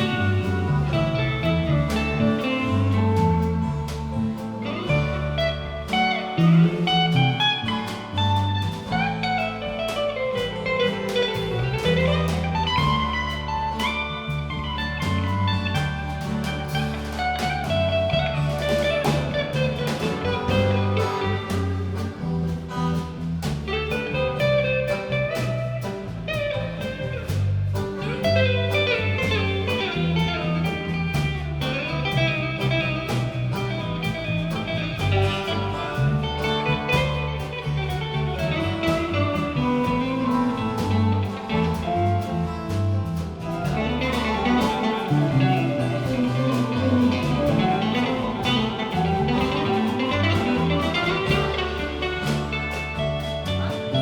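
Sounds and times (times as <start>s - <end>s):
bass line: 0.0s - 54.0s
blues guitar: 0.0s - 54.0s
steady drum beat: 0.0s - 54.0s.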